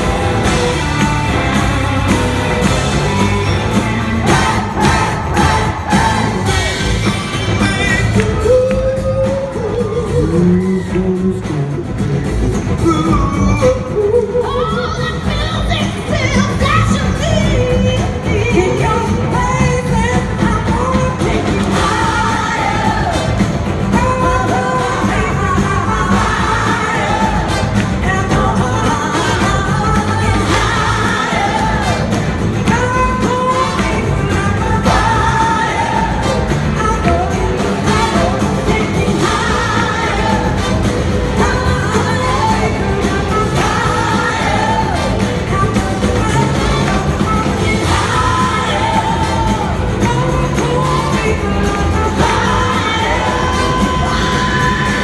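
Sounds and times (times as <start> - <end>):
voices singing: 0.0 - 12.0, 12.6 - 55.0
live soul-rock band playing: 0.0 - 55.0.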